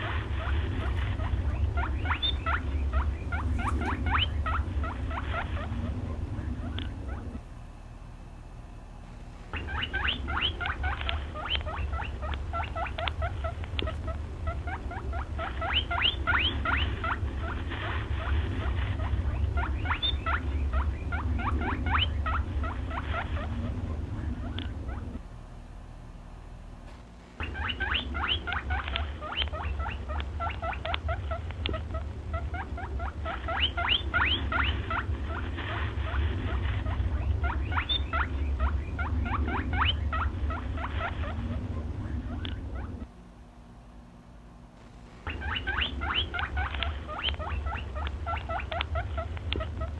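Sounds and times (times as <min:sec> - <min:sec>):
small animal squeaking: 0:00.0 - 0:07.4, 0:09.5 - 0:25.2, 0:27.4 - 0:43.1, 0:45.2 - 0:49.9
low hum: 0:00.0 - 0:49.9.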